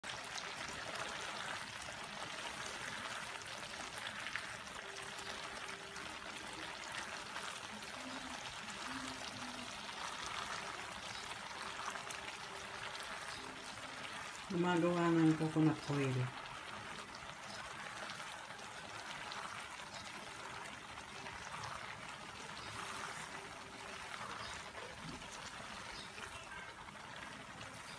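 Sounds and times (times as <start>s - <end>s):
coconut milk boiling and popping: 0.0s - 27.9s.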